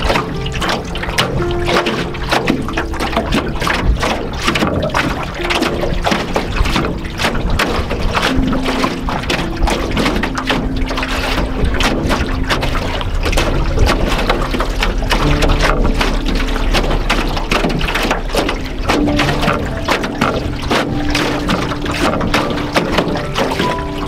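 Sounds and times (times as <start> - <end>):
waves slapping against canoe hull: 0.0 - 24.0
wind rumble on microphone: 0.0 - 24.0.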